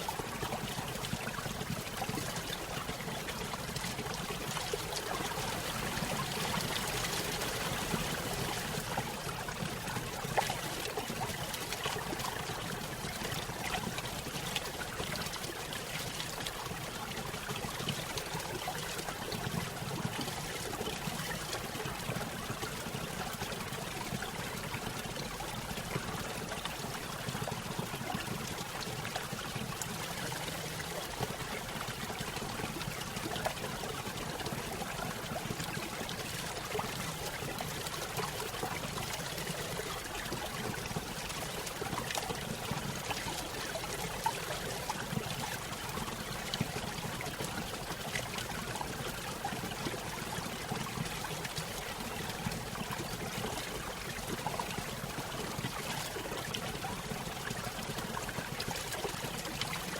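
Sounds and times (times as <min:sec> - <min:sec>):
stream over small waterfall: 0:00.0 - 0:59.9.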